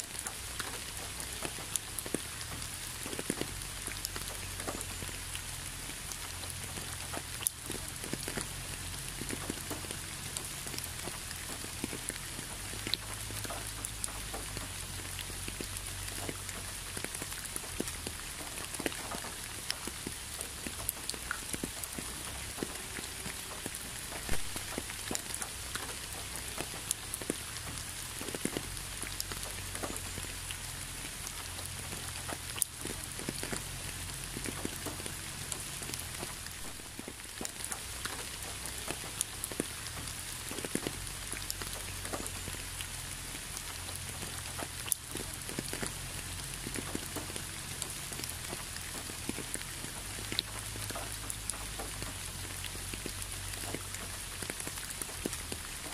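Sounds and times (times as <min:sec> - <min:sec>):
raindrops ticking close by: 0:00.0 - 0:55.9
steady rain: 0:00.0 - 0:55.9.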